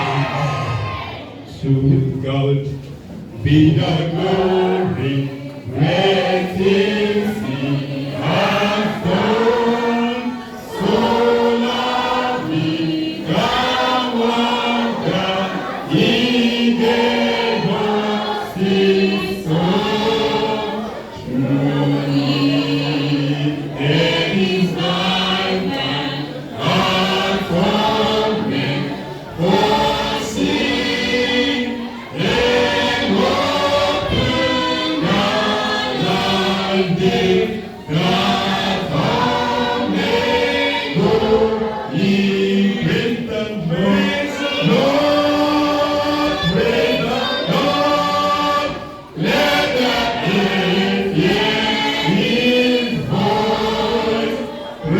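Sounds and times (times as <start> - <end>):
congregation singing gospel chorus: 0.0 - 54.9.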